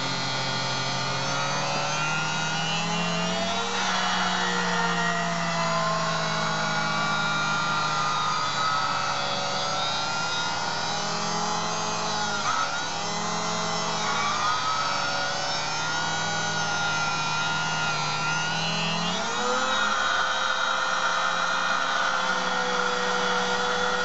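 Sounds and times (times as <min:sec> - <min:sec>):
grooving wheel whine: 0:00.0 - 0:24.0.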